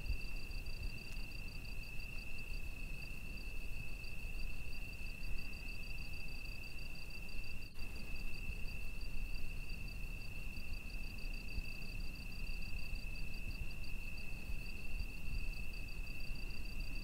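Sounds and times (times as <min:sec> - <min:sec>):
insect fast pulsing chirp: 0:00.0 - 0:17.0.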